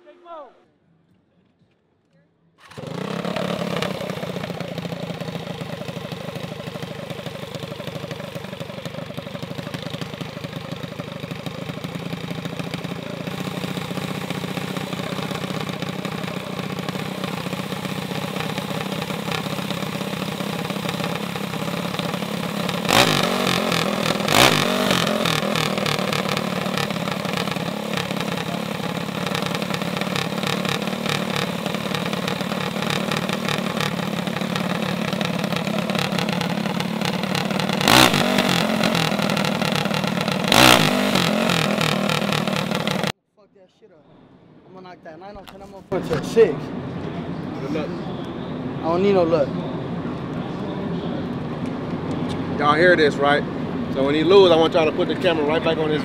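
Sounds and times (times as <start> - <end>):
mini bike engines idling: 2.6 - 43.1, 45.7 - 56.0.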